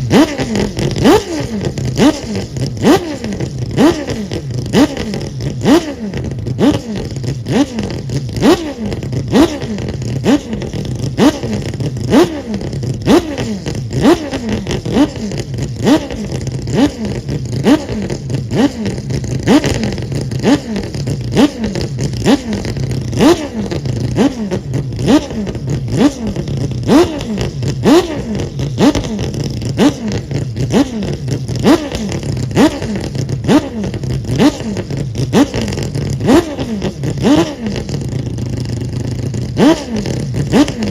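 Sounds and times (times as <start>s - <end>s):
rotary race engine revving: 0.0s - 40.9s.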